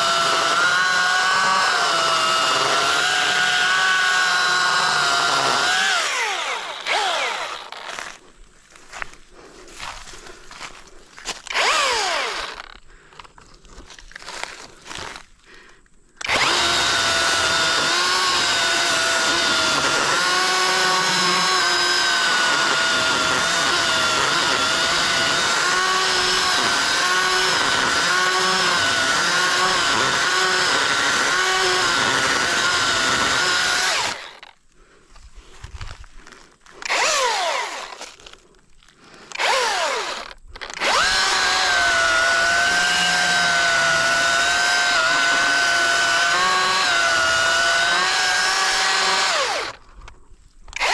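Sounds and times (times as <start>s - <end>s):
battery chainsaw cutting tree: 0.0s - 8.2s, 11.2s - 12.9s, 16.2s - 34.6s, 36.7s - 49.8s.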